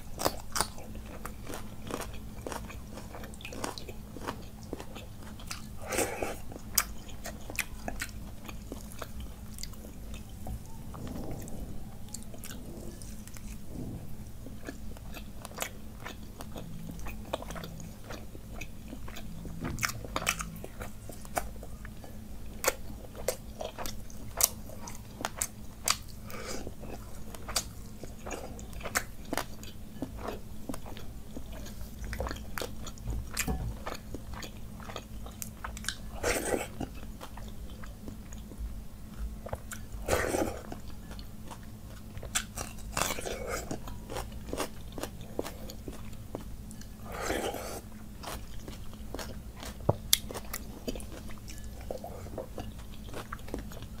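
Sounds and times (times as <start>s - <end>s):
faint low hum: 0.0s - 54.0s
wet chewing and biting: 0.0s - 54.0s.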